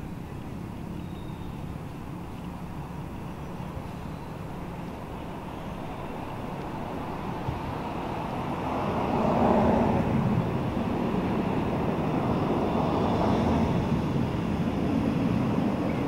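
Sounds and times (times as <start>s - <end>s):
vehicle traffic rumble: 0.0s - 16.0s.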